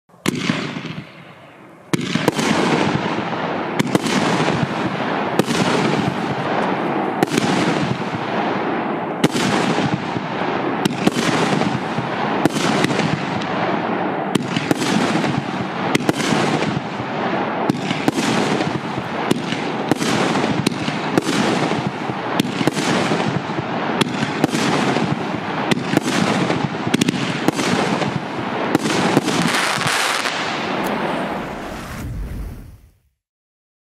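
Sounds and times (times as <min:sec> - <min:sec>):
firework bangs: 0:00.1 - 0:33.0
firework crackle and hiss: 0:00.2 - 0:33.1.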